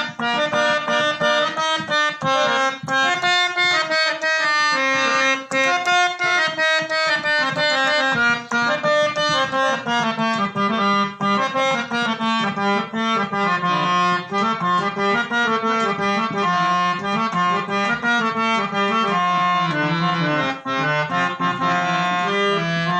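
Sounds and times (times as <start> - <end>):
harmonium melody: 0.0 - 22.9.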